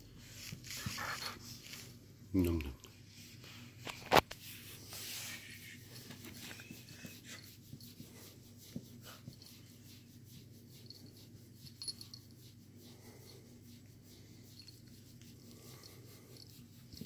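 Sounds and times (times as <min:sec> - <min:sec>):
dogs scuffling and breathing: 0:02.9 - 0:17.0.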